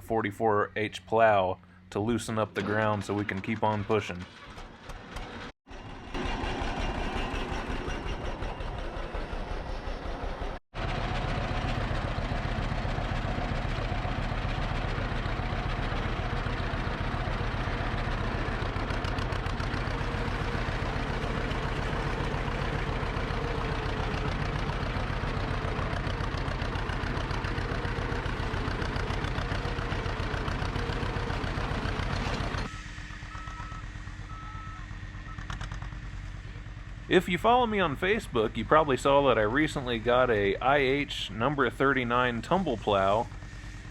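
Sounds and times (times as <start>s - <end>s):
tractor engine running under load: 1.0s - 43.9s.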